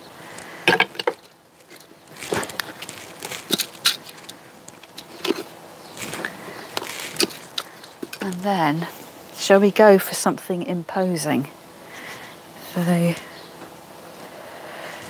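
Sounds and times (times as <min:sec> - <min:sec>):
compost crackling rustles: 0:00.0 - 0:15.0.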